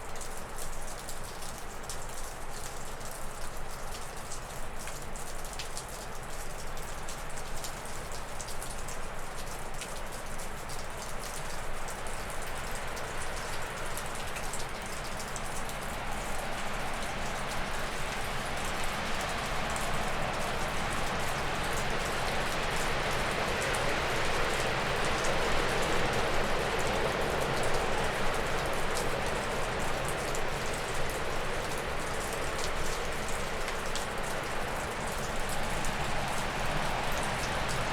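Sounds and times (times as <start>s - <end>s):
meltwater dripping off roof: 0.0s - 37.9s.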